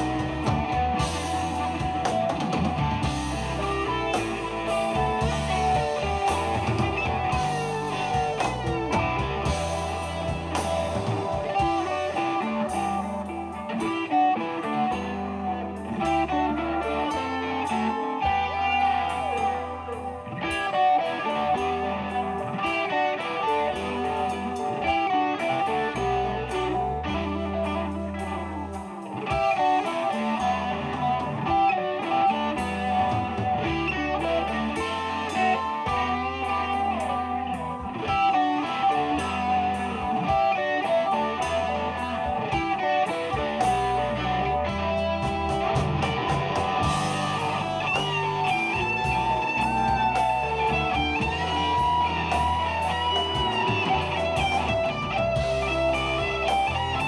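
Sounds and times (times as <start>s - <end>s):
bass guitar: 0.0s - 57.0s
drums: 0.0s - 57.0s
electric guitars: 0.0s - 57.0s.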